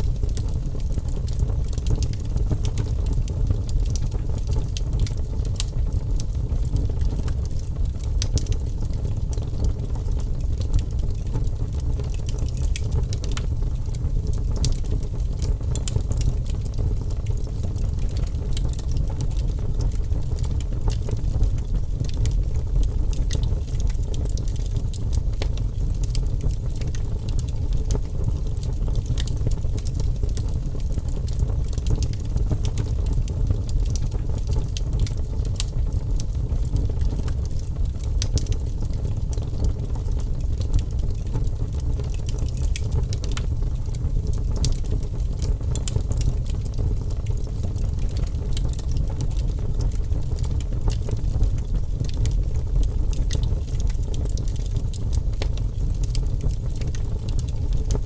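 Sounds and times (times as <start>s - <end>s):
fire crackling and popping: 0.0s - 58.0s
fire flames rumbling: 0.0s - 58.0s.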